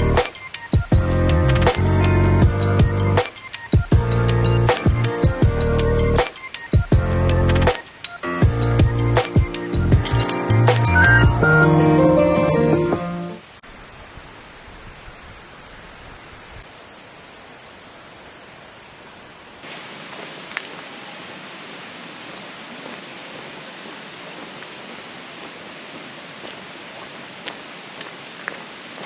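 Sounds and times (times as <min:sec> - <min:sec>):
rushing outdoor noise: 0:00.0 - 0:11.6, 0:13.4 - 0:29.0.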